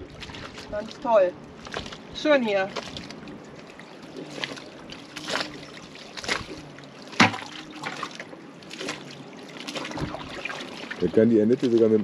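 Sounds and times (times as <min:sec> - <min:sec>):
water slapping against hull: 0:00.0 - 0:12.0.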